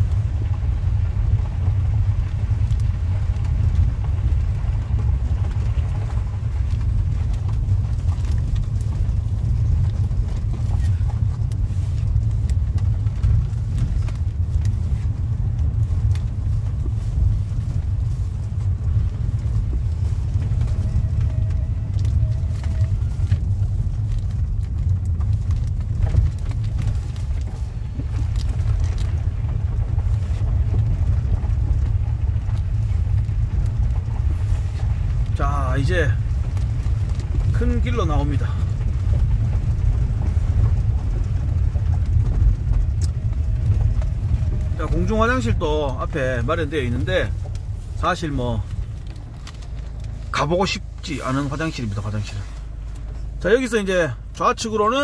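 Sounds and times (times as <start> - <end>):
car cabin rumble on dirt road: 0.0 - 55.0.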